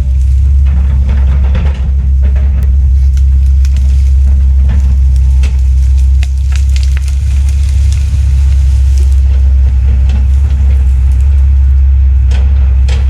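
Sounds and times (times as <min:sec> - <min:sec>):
heavy diesel machinery drone: 0:00.0 - 0:13.0
wood cracking and breaking: 0:00.0 - 0:13.0.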